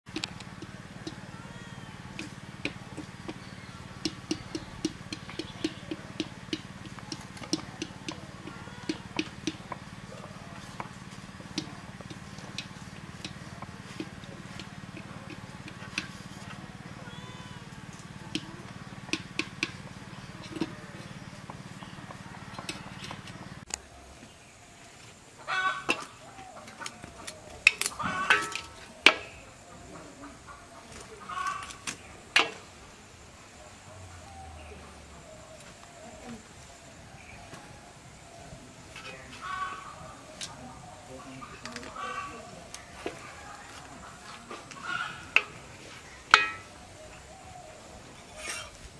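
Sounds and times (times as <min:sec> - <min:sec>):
chickens clucking: 0:00.1 - 0:23.8, 0:24.8 - 0:34.2, 0:37.4 - 0:48.9
steady low hum: 0:00.1 - 0:48.9.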